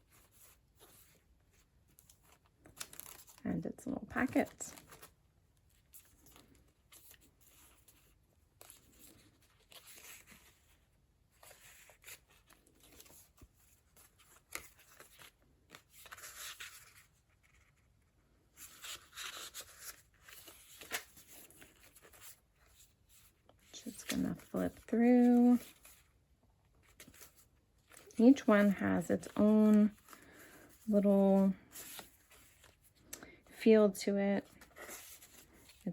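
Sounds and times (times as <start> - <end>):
paper rustling: 0.0 - 3.4, 4.2 - 33.1, 34.4 - 35.9.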